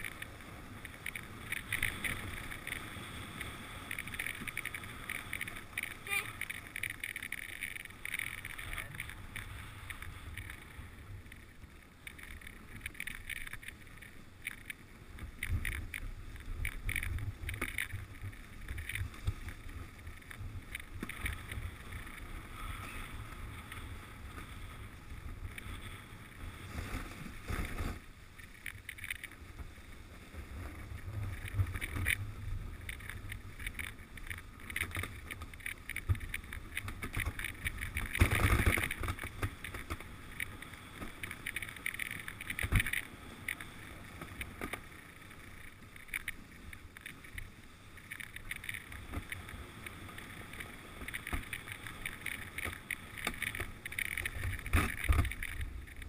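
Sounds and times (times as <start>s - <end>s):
sled runners scraping on snow: 0.0s - 56.0s
wind rumbling on microphone: 0.0s - 56.0s.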